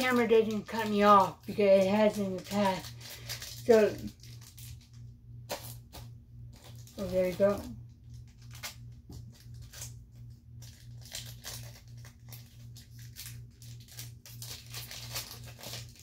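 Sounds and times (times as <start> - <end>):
foil wrapper and cards crinkling: 0.0 - 16.0.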